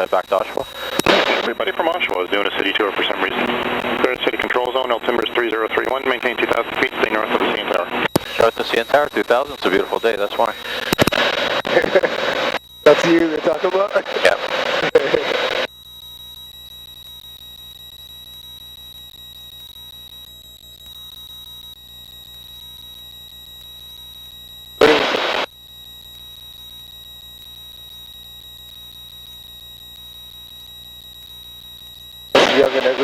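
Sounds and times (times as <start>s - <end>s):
high-pitched electronic whine: 0.6s - 33.0s.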